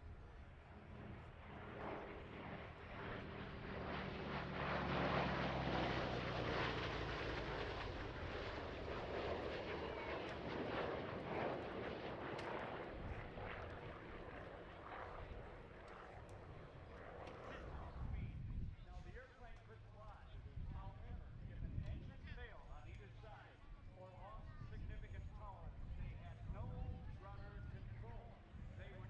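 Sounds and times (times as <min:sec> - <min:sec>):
airplane flying past: 0:00.0 - 0:29.0.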